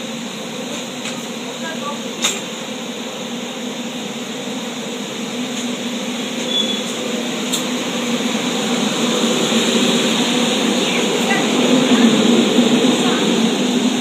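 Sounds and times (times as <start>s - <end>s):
train pulling away humming: 0.0s - 14.0s.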